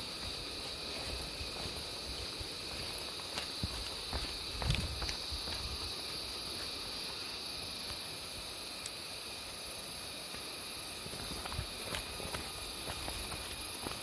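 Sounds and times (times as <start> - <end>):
footsteps on dirt trail: 0.0 - 8.0, 10.3 - 14.0
insects buzzing: 0.0 - 14.0.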